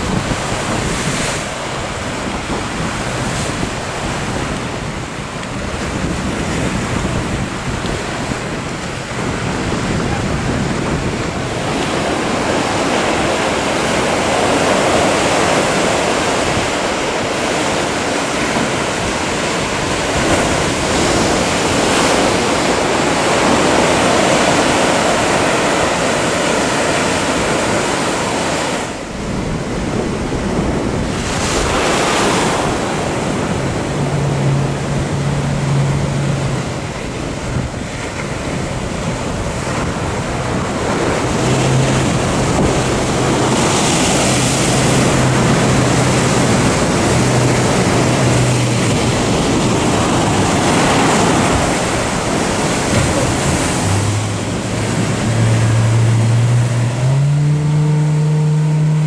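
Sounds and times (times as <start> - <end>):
motorboat engine hum: 0.0 - 59.0
ocean waves breaking: 0.0 - 59.0
wind buffeting microphone: 0.0 - 59.0.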